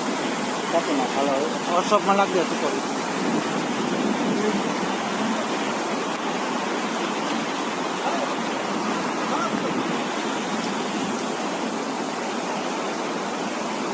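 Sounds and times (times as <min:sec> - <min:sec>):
floodwater rushing: 0:00.0 - 0:13.9.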